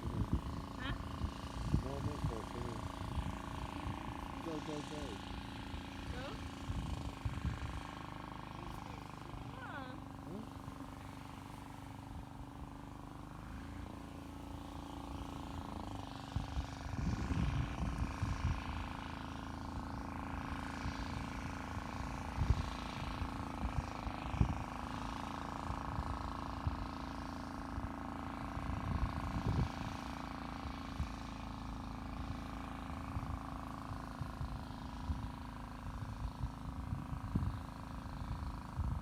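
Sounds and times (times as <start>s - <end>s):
low rumbling wind on microphone: 0.0s - 13.0s, 13.8s - 25.1s, 28.3s - 31.2s, 32.1s - 39.0s
steady engine hum: 0.0s - 39.0s.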